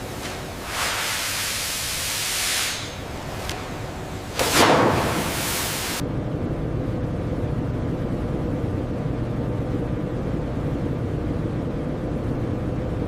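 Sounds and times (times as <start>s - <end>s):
factory machinery drone: 0.0s - 13.0s.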